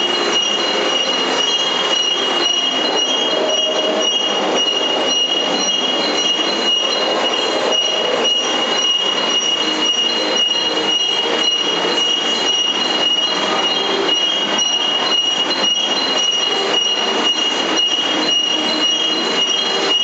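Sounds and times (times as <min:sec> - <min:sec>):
high machine whine: 0:00.0 - 0:20.0.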